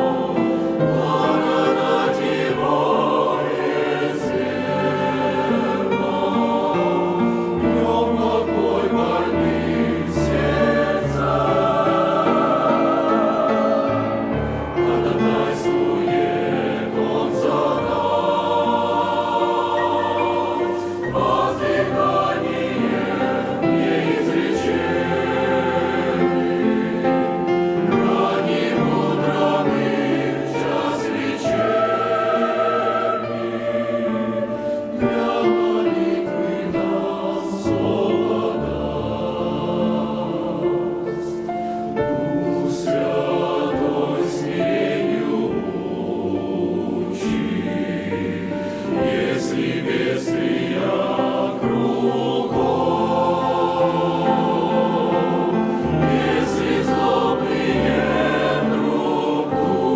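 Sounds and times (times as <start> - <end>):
church choir singing a hymn: 0.0 - 59.9.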